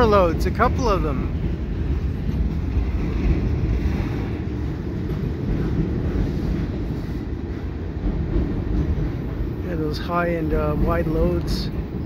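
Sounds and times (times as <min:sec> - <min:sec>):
freight train rumbling over bridge: 0:00.0 - 0:12.0.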